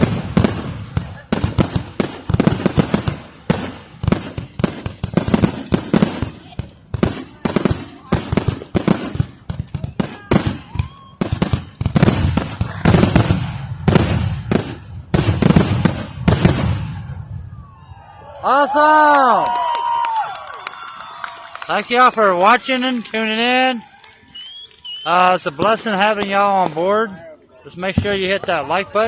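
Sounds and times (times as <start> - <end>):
fireworks bangs: 0.0 - 18.8, 19.4 - 29.0.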